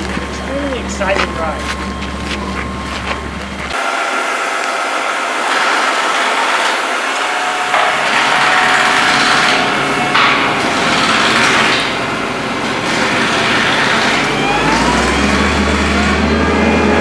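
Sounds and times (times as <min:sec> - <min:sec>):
machine whining and rasping: 0:00.0 - 0:17.0.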